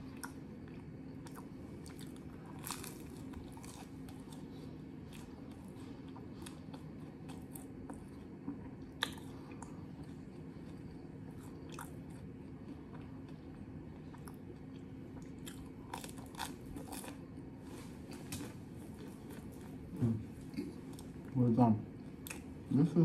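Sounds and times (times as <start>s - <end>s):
chewing sandwich: 0.0s - 22.6s
faint steady hum: 0.0s - 23.0s.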